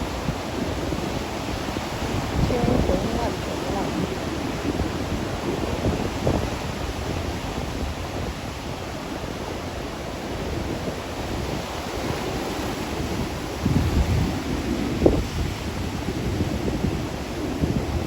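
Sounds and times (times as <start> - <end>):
waves breaking: 0.0 - 18.0
wind on microphone: 0.0 - 18.0.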